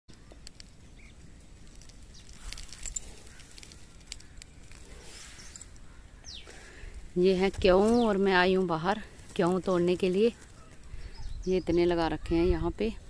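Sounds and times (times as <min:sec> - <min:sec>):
leaves rustling and crackling: 0:00.1 - 0:13.0.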